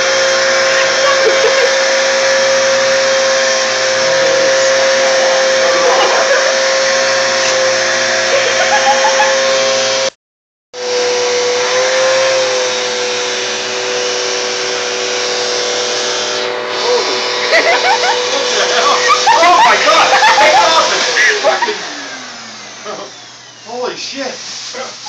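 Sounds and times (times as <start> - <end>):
vacuum cleaner whining: 0.0 - 10.2, 10.8 - 25.0.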